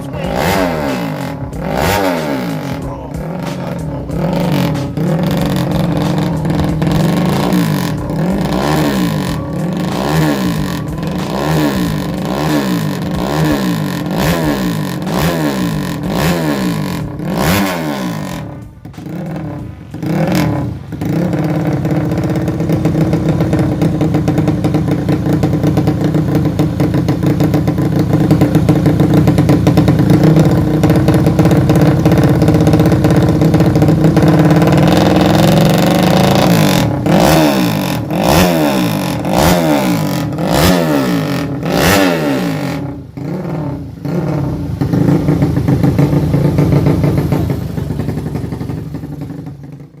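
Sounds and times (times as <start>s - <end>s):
motorcycle engine idling and revving: 0.0s - 50.0s.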